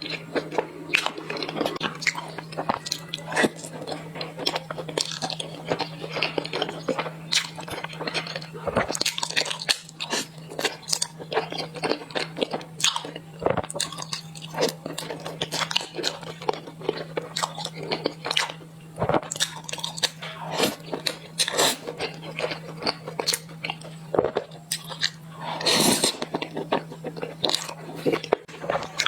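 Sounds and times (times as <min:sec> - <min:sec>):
close chewing and crunching: 0:00.0 - 0:29.0.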